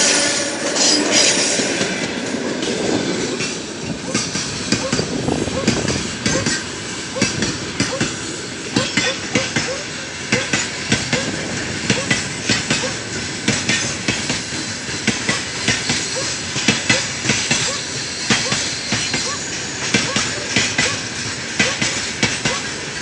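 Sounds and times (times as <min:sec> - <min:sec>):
train wheels clattering over rail joints: 0:00.0 - 0:23.0.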